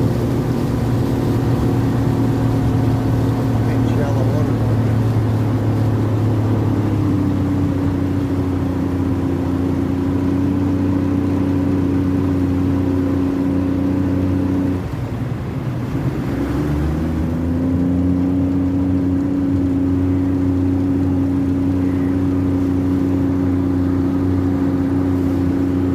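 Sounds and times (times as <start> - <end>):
engine running: 0.0 - 25.9.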